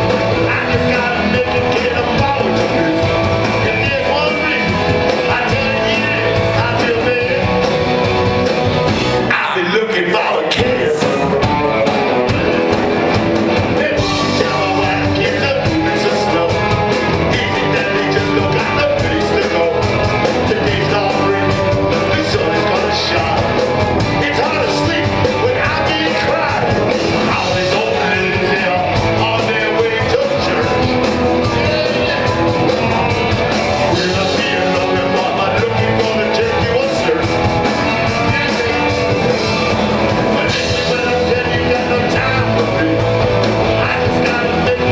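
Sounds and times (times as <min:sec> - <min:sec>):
man singing: 0:00.0 - 0:12.8, 0:13.5 - 0:44.9
live rock band: 0:00.0 - 0:44.9.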